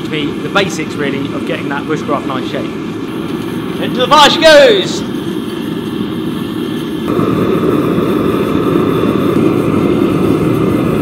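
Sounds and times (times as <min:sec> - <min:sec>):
faint steady whine: 0:00.0 - 0:11.0
gas forge burner roaring: 0:00.0 - 0:11.0.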